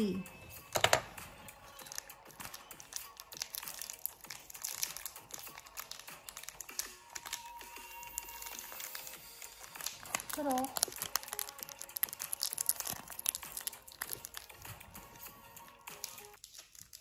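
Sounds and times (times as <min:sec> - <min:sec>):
candy wrapper crinkling: 0:00.5 - 0:17.0.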